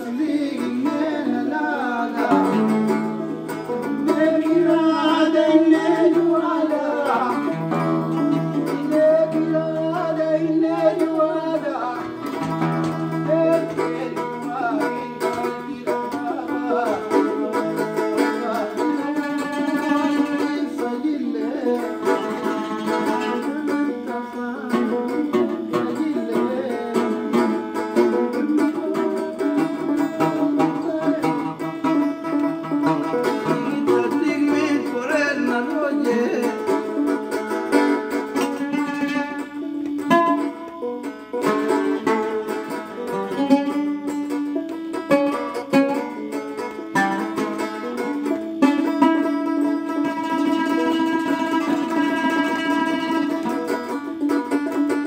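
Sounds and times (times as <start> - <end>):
man singing: 0.0 - 55.0
plucked lyre and oud: 0.0 - 55.0.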